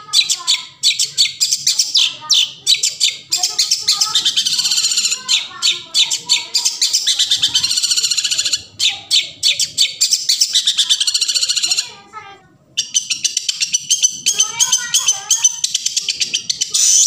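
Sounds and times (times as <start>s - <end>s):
birds chattering trills and calls: 0.0s - 17.0s.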